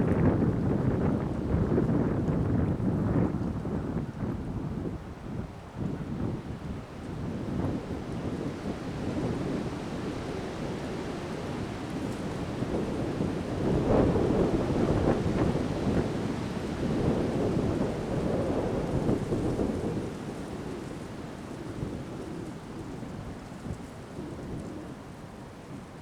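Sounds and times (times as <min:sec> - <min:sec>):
strong wind buffeting microphone: 0:00.0 - 0:26.0.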